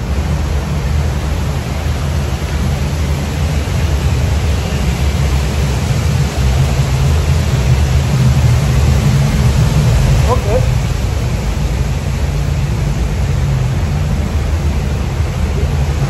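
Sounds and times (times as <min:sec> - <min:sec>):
deep rumble: 0:00.0 - 0:16.0
rushing water: 0:00.0 - 0:16.0.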